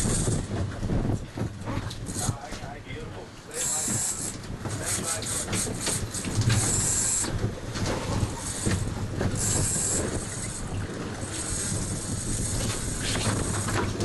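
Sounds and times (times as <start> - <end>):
boat engine rumble: 0.0 - 14.0
wind and water wash: 0.0 - 14.0.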